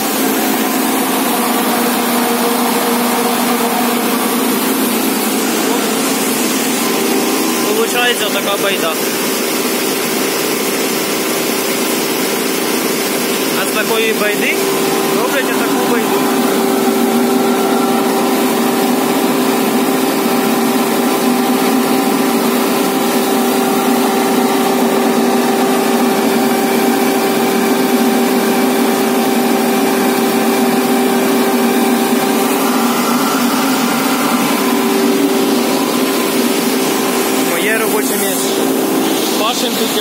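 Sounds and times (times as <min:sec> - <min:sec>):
loud steady machine hum: 0:00.0 - 0:40.0.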